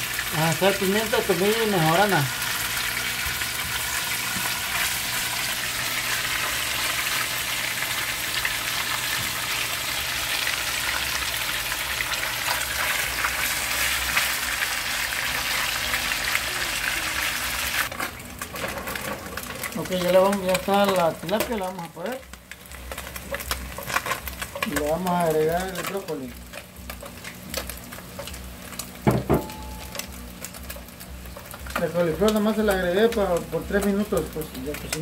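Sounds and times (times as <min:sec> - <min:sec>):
fish sizzling in hot oil: 0:00.0 - 0:35.0.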